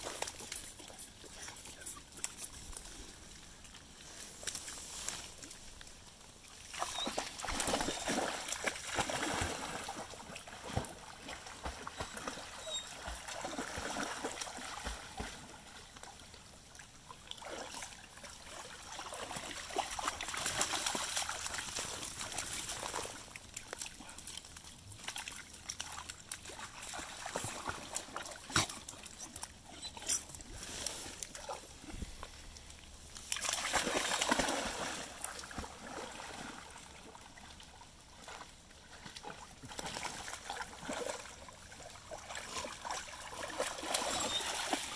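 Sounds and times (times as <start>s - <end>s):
dogs splashing through water: 6.6s - 32.6s, 33.2s - 44.9s.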